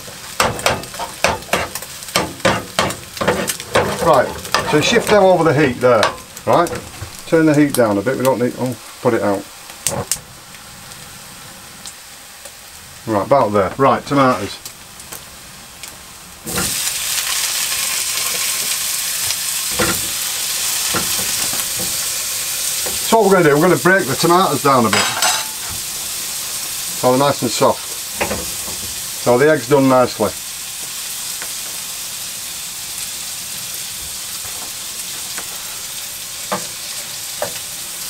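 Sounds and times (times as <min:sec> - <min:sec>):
tomatoes sizzling in oil: 0:00.0 - 0:38.0.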